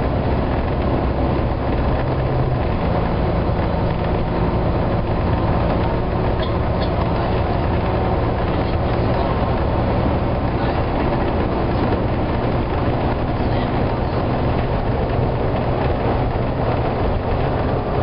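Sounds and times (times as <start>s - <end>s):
bus engine drone: 0.0s - 18.0s
road noise: 0.0s - 18.0s
wind noise: 0.0s - 18.0s.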